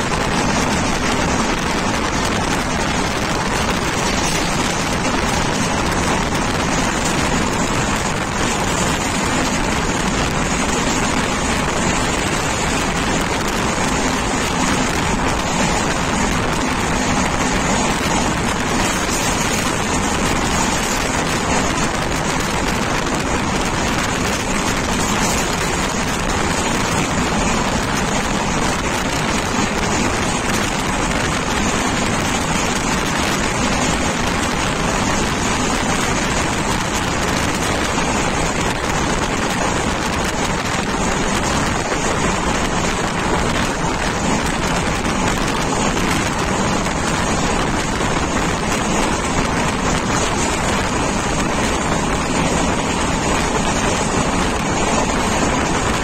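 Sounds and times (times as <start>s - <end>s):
train rushing wind: 0.0s - 56.0s
wheels rumbling on rail: 0.0s - 56.0s.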